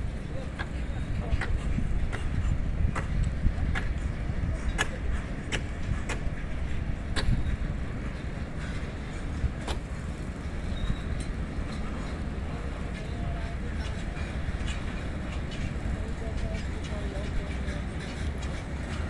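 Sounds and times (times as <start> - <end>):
freight train rumbling: 0.0 - 19.0
wheels clicking over rail joints: 0.0 - 19.0.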